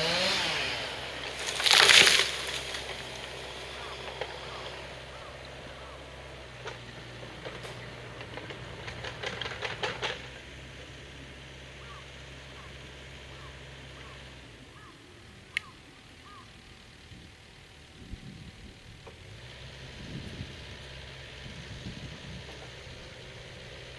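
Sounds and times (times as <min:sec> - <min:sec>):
low engine hum: 0:00.0 - 0:23.9.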